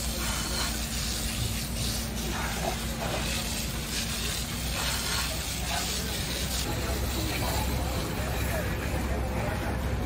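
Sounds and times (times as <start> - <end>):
hose spraying water: 0.0 - 9.8.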